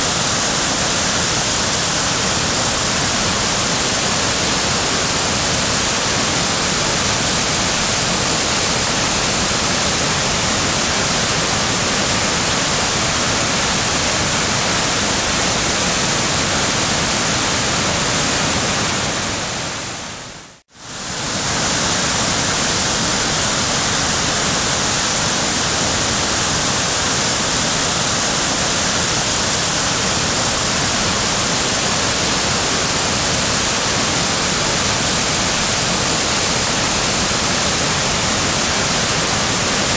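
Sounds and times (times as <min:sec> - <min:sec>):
loud rushing hiss: 0:00.0 - 0:39.9.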